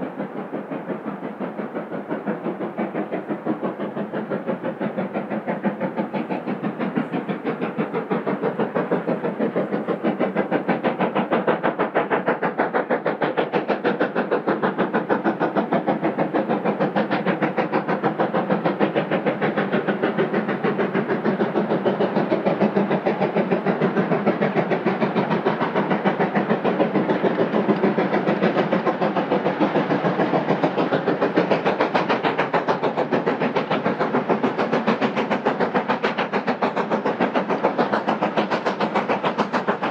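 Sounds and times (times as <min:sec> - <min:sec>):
steam locomotive exhaust beating: 0:00.0 - 0:39.9.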